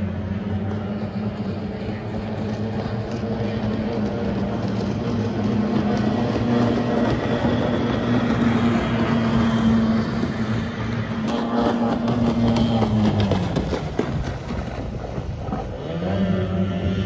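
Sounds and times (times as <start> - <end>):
outboard motors droning: 0.0 - 17.0.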